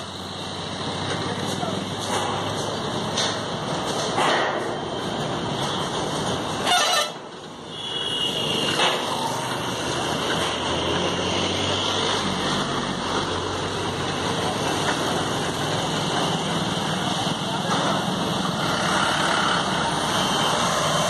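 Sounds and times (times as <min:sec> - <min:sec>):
heavy vehicle engine running: 0:00.0 - 0:06.7, 0:08.8 - 0:21.0
road traffic noise: 0:00.0 - 0:21.0.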